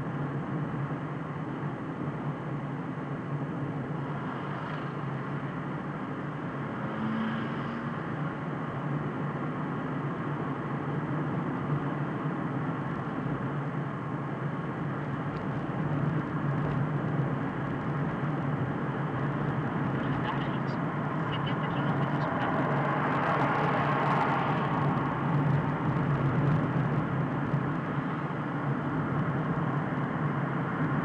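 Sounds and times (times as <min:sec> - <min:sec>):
car engine and tyre road noise: 0:00.0 - 0:31.0.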